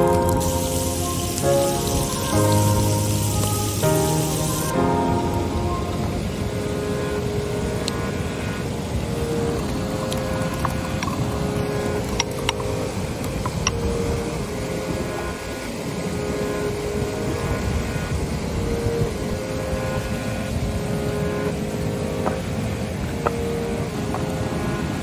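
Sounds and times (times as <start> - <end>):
river water rushing over weir: 0.0 - 25.0.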